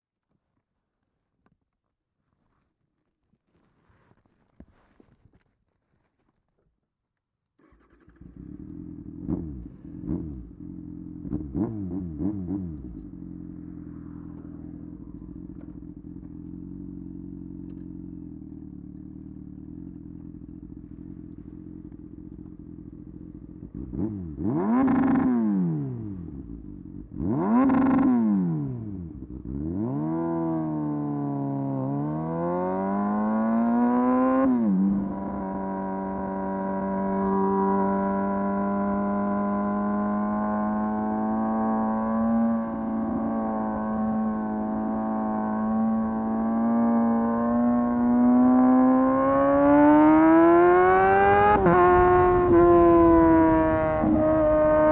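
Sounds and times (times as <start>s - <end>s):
motorcycle engine revving: 7.6s - 54.9s.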